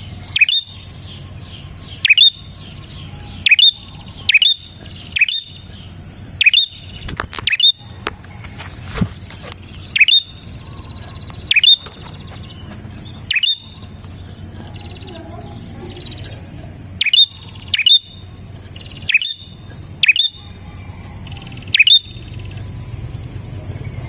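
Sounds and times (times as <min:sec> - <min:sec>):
bird chirping sharply: 0:00.0 - 0:08.0, 0:09.6 - 0:22.6.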